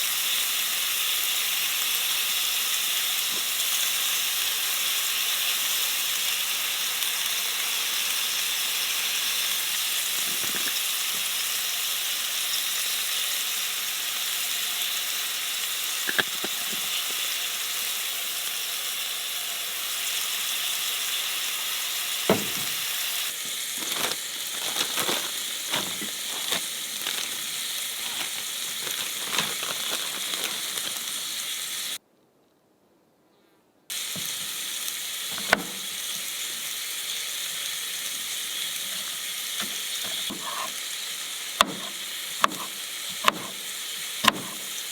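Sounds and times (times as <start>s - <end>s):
steak sizzling in a pan: 0.0s - 32.0s, 33.9s - 44.9s.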